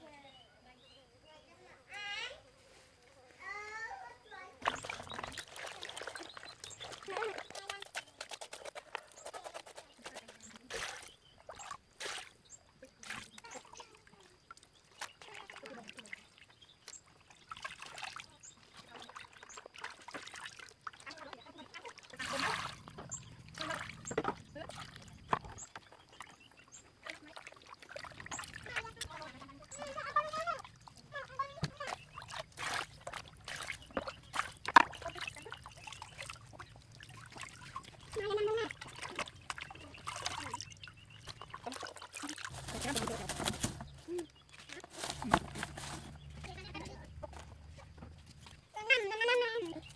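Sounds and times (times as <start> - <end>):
water splashing and trickling: 3.4 - 49.9.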